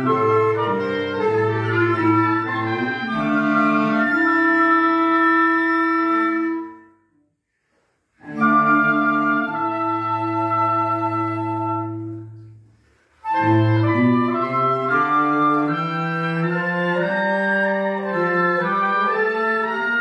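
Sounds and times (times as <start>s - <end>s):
woodwind and cello quartet chords: 0.0s - 7.0s, 8.2s - 12.6s, 13.2s - 20.0s.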